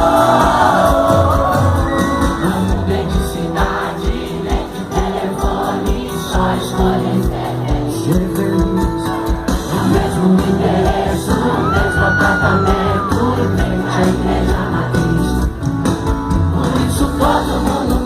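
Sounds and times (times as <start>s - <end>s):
crowd singing and shouting: 0.0s - 18.0s
live band playing: 0.0s - 18.0s
steady drum beat: 0.0s - 18.0s.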